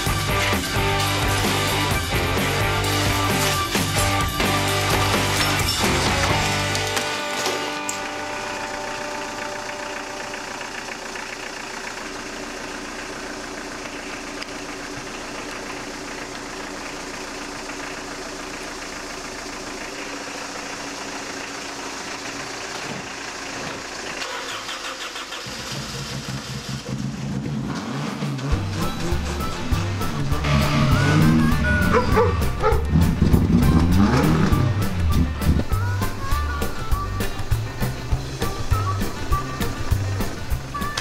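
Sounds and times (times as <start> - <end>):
car engine running: 0.0 - 41.0.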